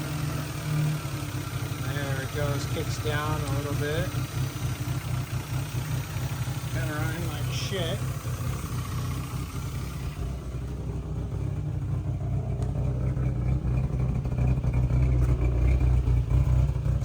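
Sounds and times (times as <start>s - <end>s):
car engine idling roughly: 0.0s - 17.0s.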